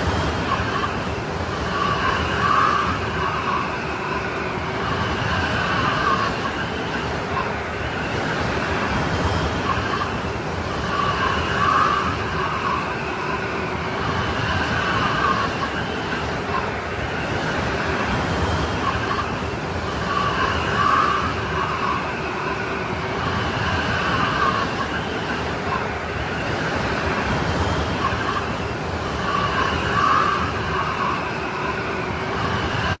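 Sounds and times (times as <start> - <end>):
strong whistling wind: 0.0 - 33.0.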